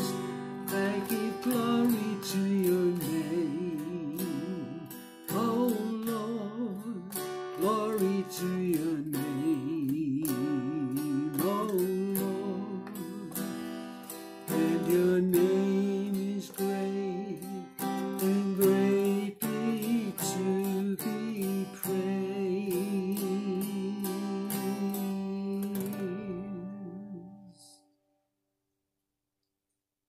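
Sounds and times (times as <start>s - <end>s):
acoustic guitar strumming: 0.0s - 27.8s
man singing: 0.0s - 27.8s.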